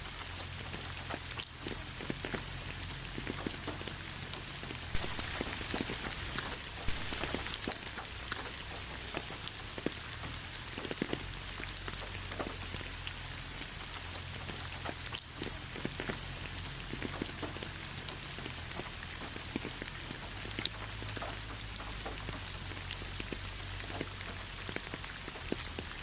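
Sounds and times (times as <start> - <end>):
low steady hum: 0.0 - 22.5
rain falling: 0.0 - 26.0.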